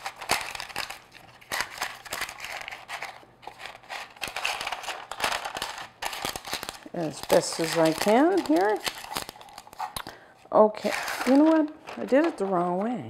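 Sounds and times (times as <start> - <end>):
parchment paper crinkling: 0.0 - 13.0.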